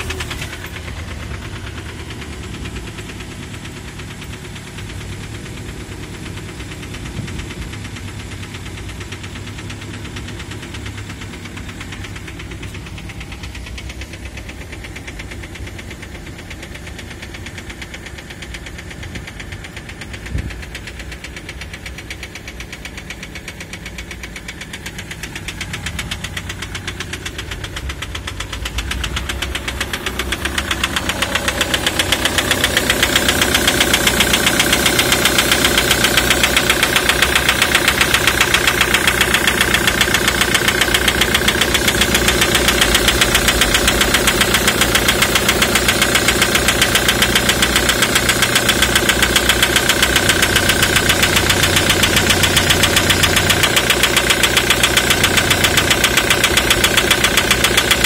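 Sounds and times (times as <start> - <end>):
diesel engine idling with knock: 0.0 - 58.0.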